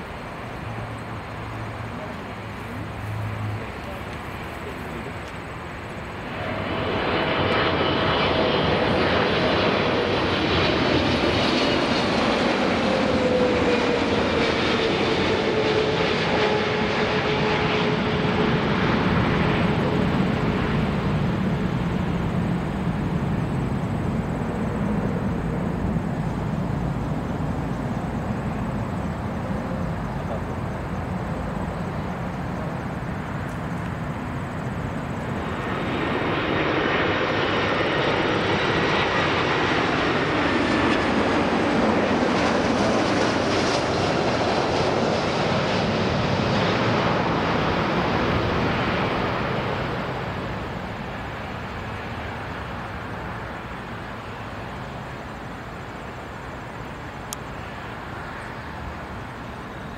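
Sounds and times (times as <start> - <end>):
jet engines passing close: 0.0 - 59.9
jet engines rumbling: 0.0 - 59.9.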